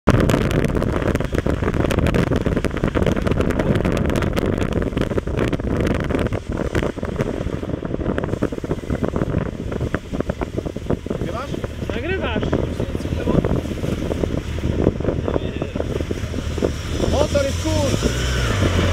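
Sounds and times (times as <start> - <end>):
wind buffeting microphone: 0.0 - 18.9
motorcycle engine running: 0.1 - 18.9.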